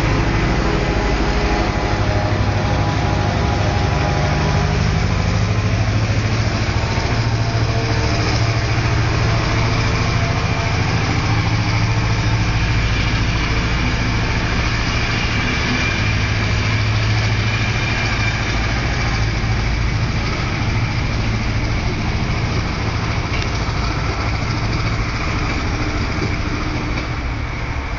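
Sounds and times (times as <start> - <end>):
diesel locomotive engine roaring: 0.0 - 27.9.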